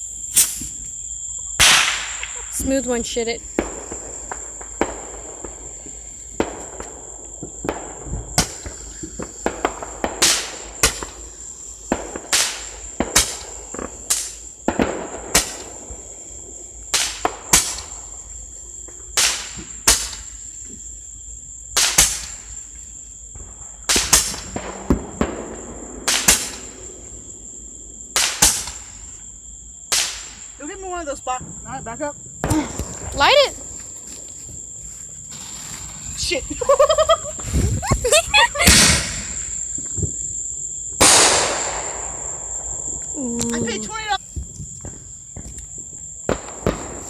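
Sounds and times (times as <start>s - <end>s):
fireworks and firecrackers banging: 0.0s - 47.0s
insects trilling: 0.0s - 47.0s.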